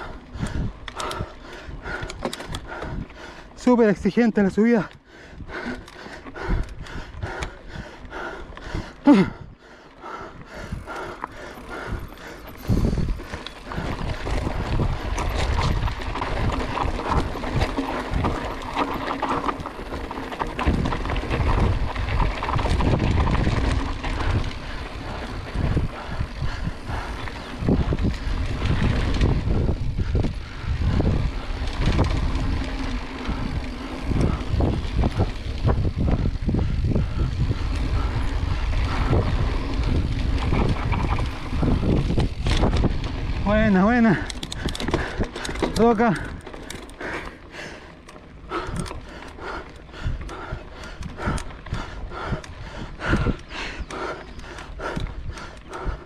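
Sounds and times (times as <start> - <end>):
bike knocking and rattling: 0.0 - 9.4, 10.0 - 56.0
wind buffeting microphone: 0.0 - 56.0.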